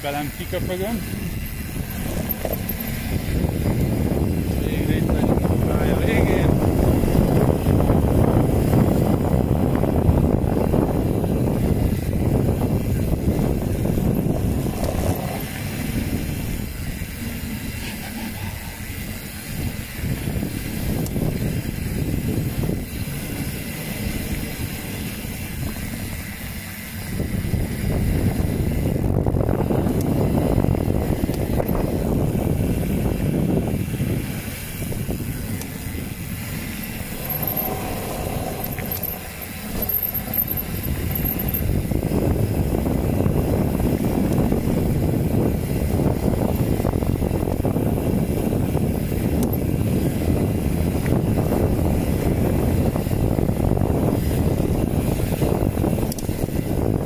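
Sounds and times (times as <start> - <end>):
rumble of bike on trail: 0.0 - 57.0
wind buffeting microphone: 0.0 - 57.0.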